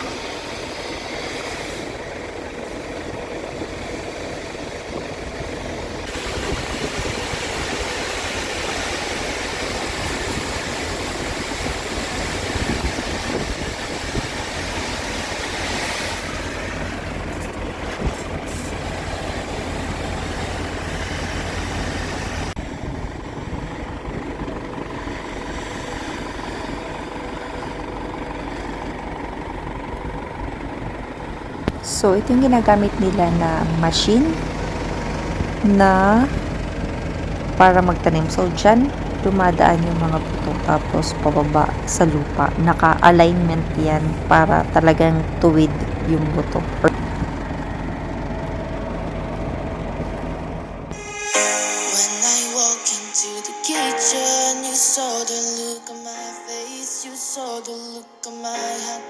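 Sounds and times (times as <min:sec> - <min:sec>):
farm vehicle engine running: 0:00.0 - 0:51.6.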